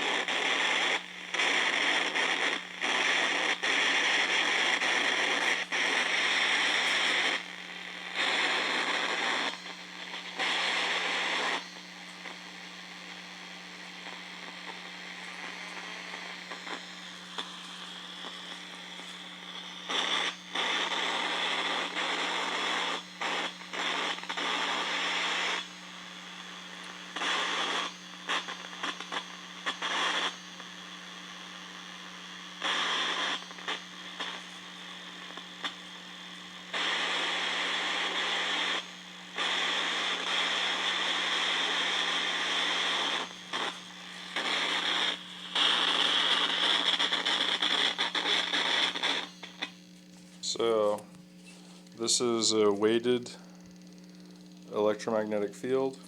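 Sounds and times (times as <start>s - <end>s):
electronic static hiss: 0.0s - 56.0s
low electrical hum: 0.0s - 56.0s.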